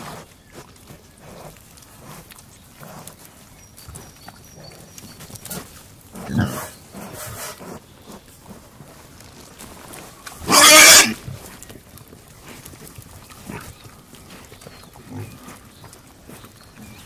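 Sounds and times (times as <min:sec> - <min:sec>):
pigs grunting and snuffling: 0:00.0 - 0:17.0.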